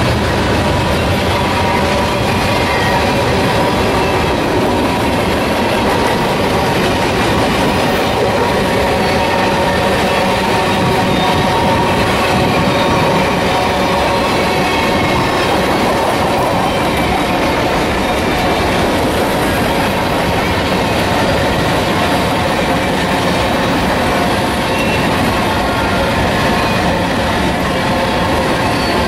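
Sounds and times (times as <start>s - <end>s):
train wheels rumbling on rail: 0.0s - 29.0s
high wheel squealing: 0.1s - 29.0s.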